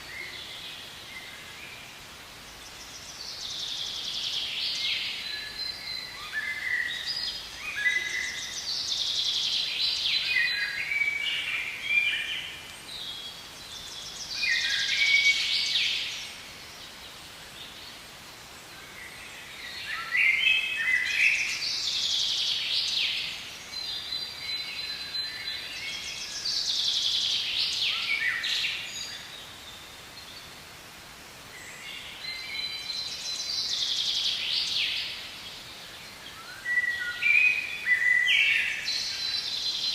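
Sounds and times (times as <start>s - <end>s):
faint outdoor background: 0.0s - 39.9s
songbird singing: 0.0s - 39.9s.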